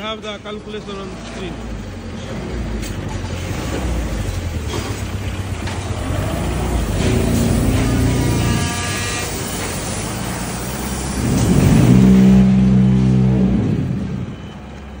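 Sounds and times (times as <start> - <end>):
forklift engine revving: 0.8 - 15.0.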